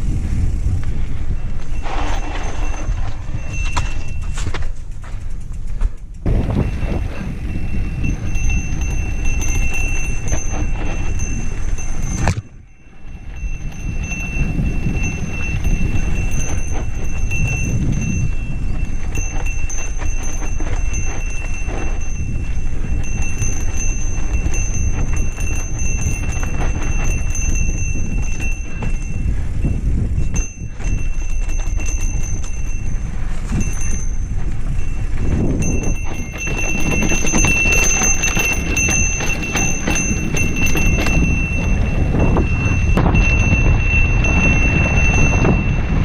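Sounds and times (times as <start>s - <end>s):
bike clattering over bumps: 0.0s - 46.0s
wind rumbling on microphone: 0.0s - 46.0s.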